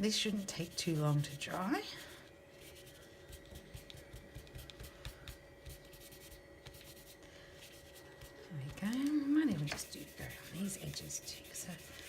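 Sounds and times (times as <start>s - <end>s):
faint steady hum: 0.0s - 12.0s
tool scratching on paper: 0.1s - 8.9s, 9.5s - 12.0s.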